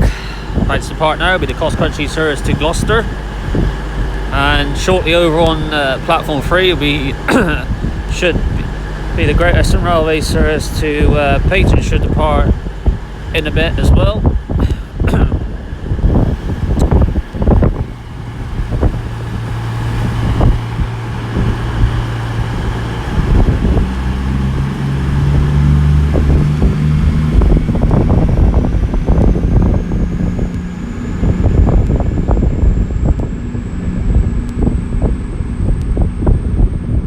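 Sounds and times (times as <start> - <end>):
diesel train engines revving: 0.0 - 37.0
thin rising whine: 0.0 - 37.0
wind buffeting microphone: 0.0 - 37.0.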